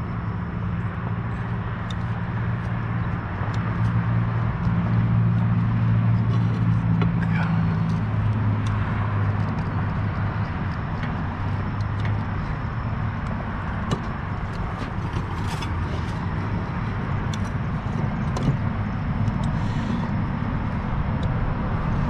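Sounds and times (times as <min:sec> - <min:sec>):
motor engine humming: 0:00.0 - 0:22.0.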